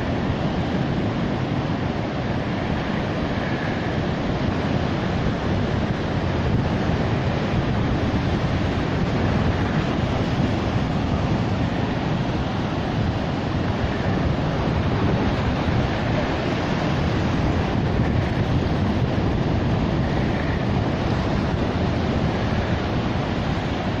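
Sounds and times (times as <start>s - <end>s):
surf washing onto beach: 0.0s - 24.0s
wind rumbling on microphone: 0.0s - 24.0s.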